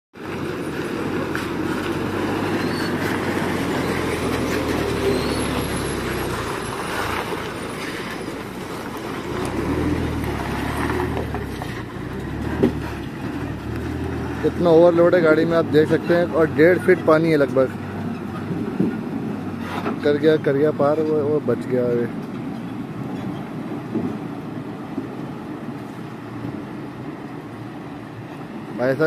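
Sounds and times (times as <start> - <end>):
truck diesel engine under load: 0.1 - 29.0.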